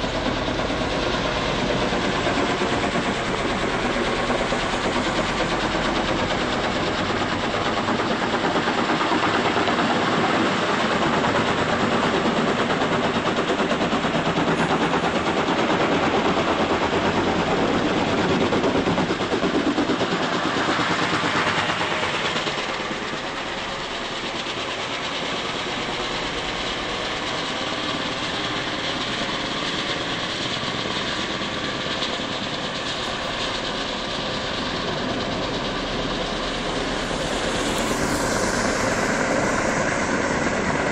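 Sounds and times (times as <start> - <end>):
helicopter rotors beating: 0.0 - 40.9.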